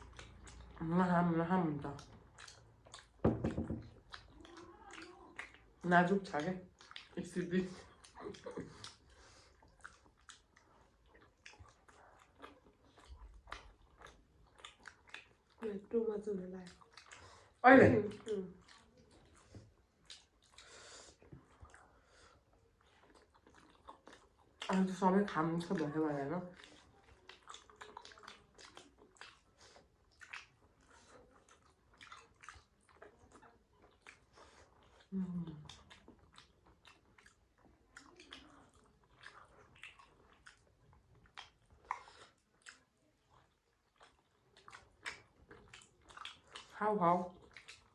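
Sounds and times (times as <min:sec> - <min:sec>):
chewing and mouth sounds: 0:00.0 - 0:47.9.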